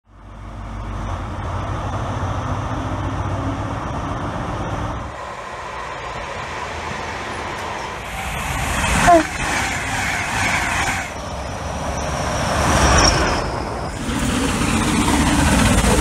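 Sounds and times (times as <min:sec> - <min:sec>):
diesel locomotive idling: 0:00.1 - 0:16.0
passenger train running past: 0:00.1 - 0:16.0.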